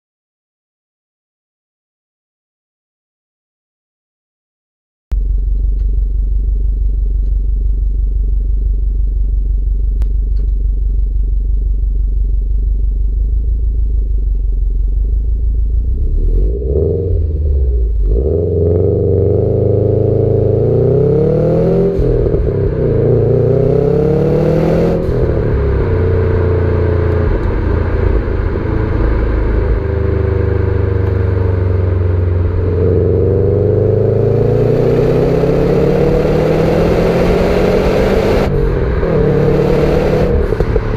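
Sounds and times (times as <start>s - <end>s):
car engine idling and revving: 5.1s - 40.9s.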